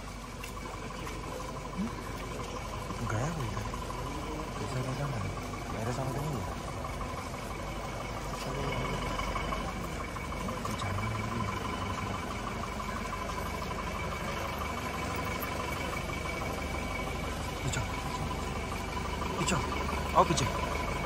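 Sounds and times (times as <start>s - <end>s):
crowd hubbub: 0.0s - 21.0s
thin steady whine: 0.0s - 21.0s
truck engine rumble: 0.0s - 21.0s.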